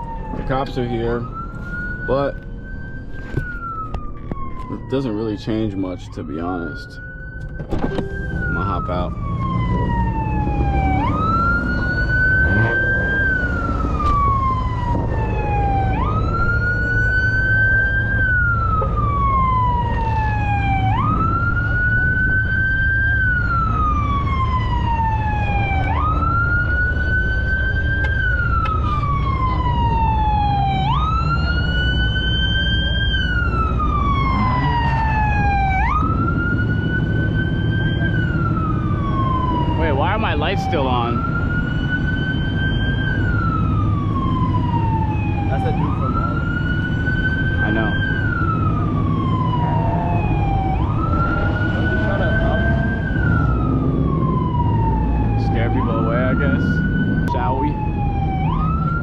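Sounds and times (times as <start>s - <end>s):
police siren wailing: 0.0s - 59.0s.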